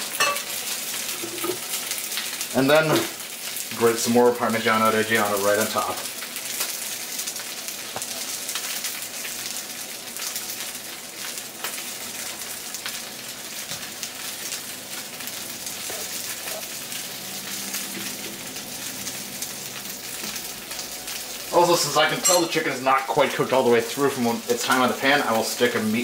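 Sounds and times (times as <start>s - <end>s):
hot oil crackling in skillet: 0.0s - 26.0s.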